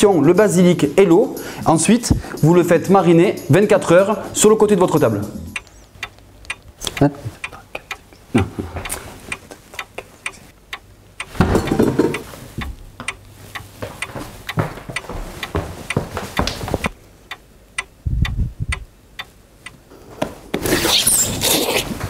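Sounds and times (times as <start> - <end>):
clock ticking: 0.0 - 19.8.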